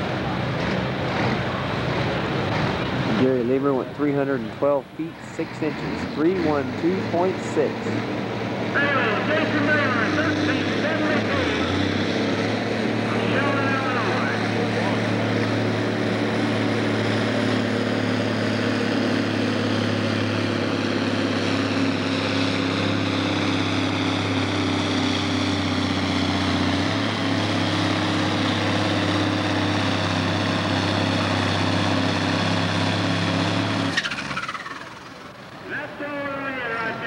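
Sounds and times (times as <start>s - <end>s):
tractor diesel engine droning: 0.0s - 37.0s.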